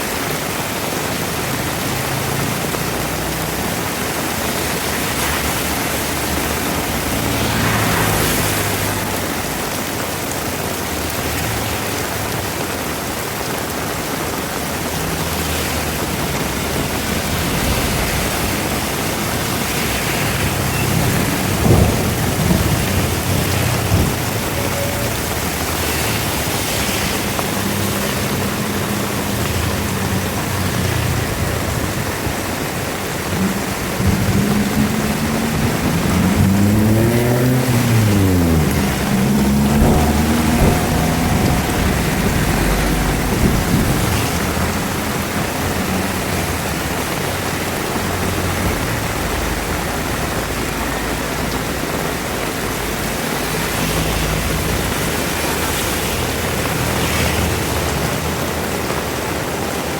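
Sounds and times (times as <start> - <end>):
heavy rain: 0.0 - 59.9
vehicle engine passing: 1.2 - 12.6, 14.7 - 59.8.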